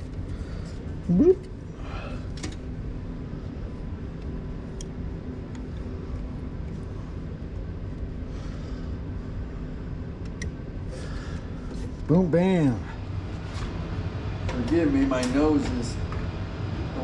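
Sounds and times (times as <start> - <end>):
hvac equipment humming: 0.0 - 17.0.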